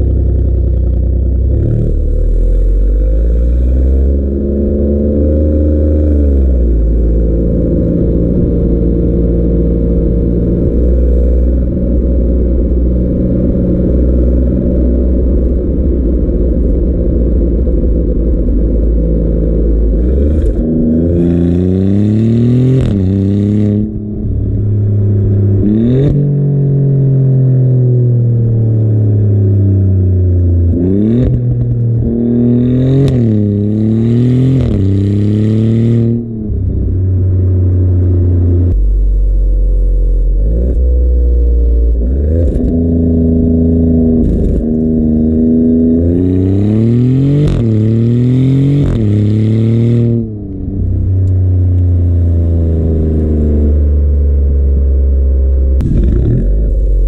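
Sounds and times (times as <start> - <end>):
car exhaust accelerating: 0.0 - 57.0.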